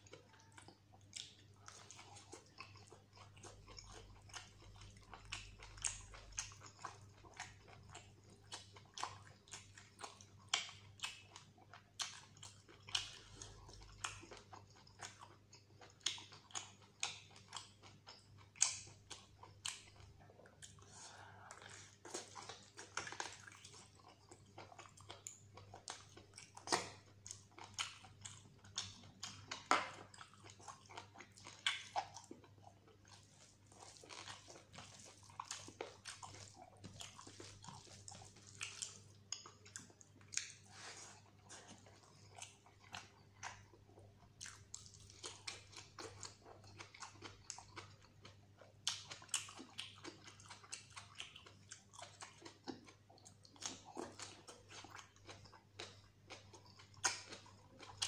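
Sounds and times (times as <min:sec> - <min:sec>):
man chewing and lip smacking: 0:00.0 - 0:58.0.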